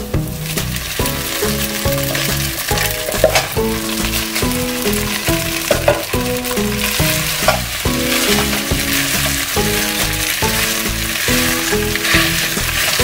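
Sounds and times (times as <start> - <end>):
background music: 0.0 - 13.0
rice sizzling in oil: 0.0 - 13.0
stirring in a pan: 0.0 - 13.0.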